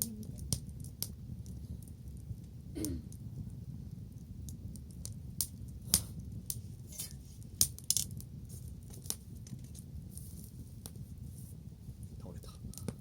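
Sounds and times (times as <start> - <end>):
bonfire crackling and popping: 0.0 - 13.0
low fire rumble: 0.0 - 13.0.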